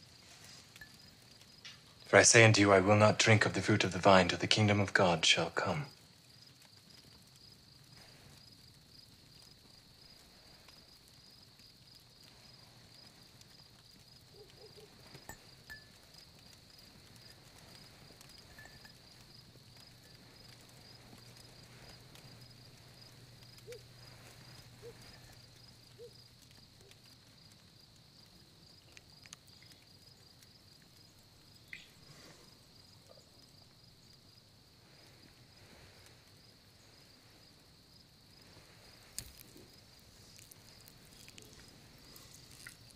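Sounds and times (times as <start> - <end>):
faint cricket chirping: 0.0 - 42.9.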